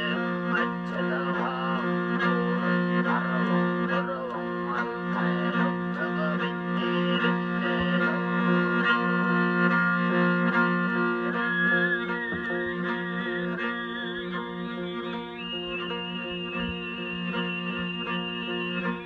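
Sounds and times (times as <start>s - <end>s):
bowed fiddle over drone: 0.0s - 19.0s
plucked lute: 0.0s - 19.0s.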